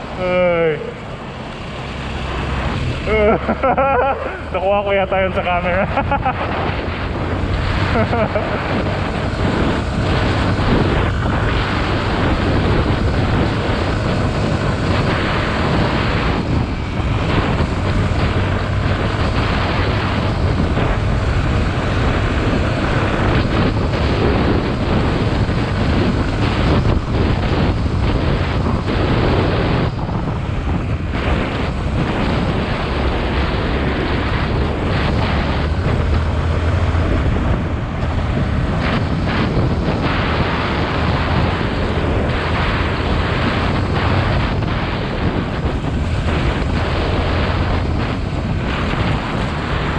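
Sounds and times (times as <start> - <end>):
motorcycle engine running: 0.0 - 49.9
wind rush on microphone: 0.0 - 49.9.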